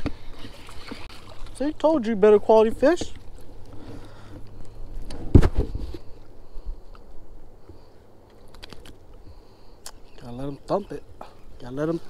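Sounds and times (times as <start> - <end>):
fish handling noise: 0.0 - 12.0.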